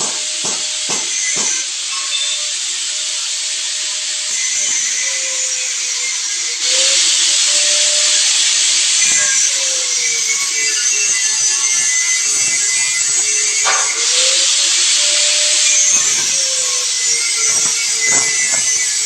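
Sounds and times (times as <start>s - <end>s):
high-pressure water spray hissing: 0.0s - 19.0s
wavering motor whine: 0.9s - 19.0s.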